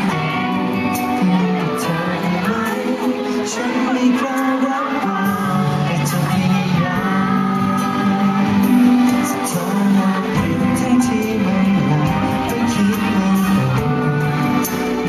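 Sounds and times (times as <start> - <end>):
live pop band playing: 0.0 - 15.0.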